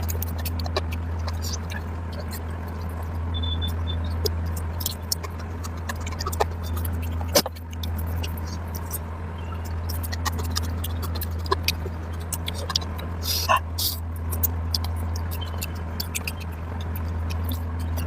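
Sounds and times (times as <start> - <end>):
steady low hum: 0.0 - 18.0
wet chewing and lip smacks: 0.0 - 18.0.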